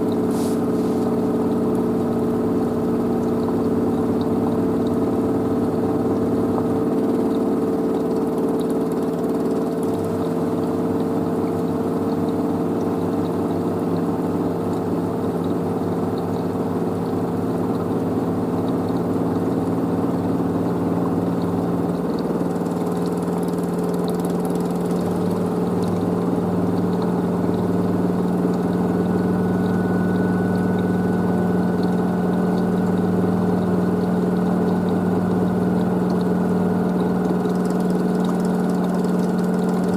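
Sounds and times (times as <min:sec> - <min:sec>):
washing machine drum spinning: 0:00.0 - 0:39.9.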